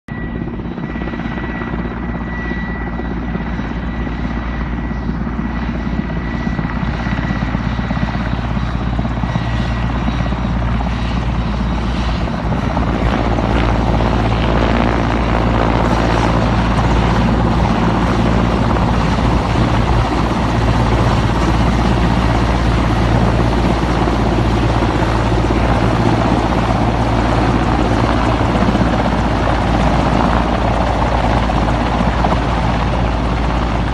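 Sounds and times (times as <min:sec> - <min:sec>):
helicopter rotor and engine: 0:00.1 - 0:33.9.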